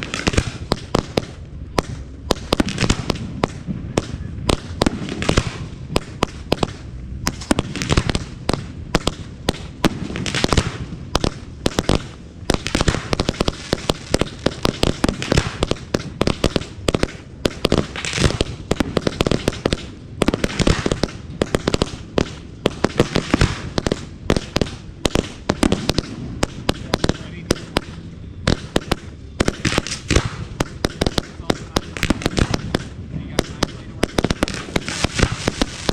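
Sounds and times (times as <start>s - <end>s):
fireworks bangs and crackles: 0.0s - 35.9s
rushing hiss of fireworks: 0.0s - 35.9s.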